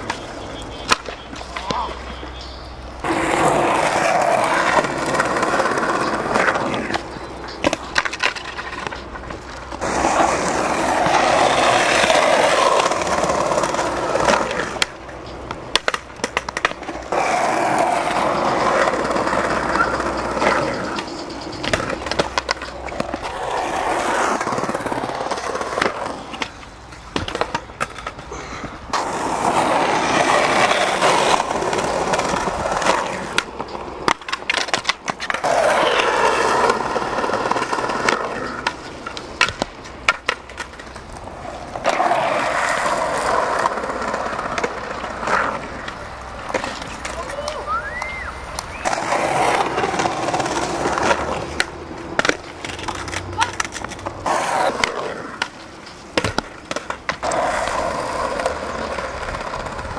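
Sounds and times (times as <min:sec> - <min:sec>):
skateboard clacking on ground: 0:00.0 - 0:59.9
skateboard wheels rolling on concrete: 0:00.0 - 0:59.9.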